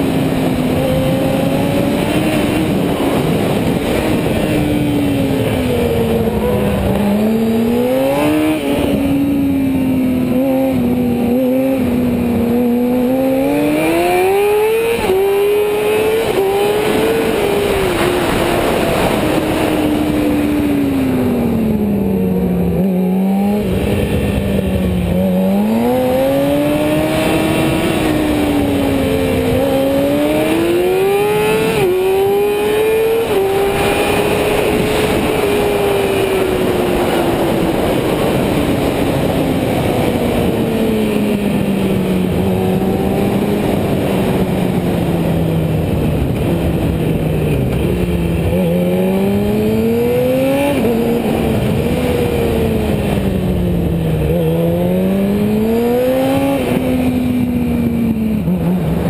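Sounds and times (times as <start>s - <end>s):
racing motorcycle engine revving: 0.0s - 59.0s.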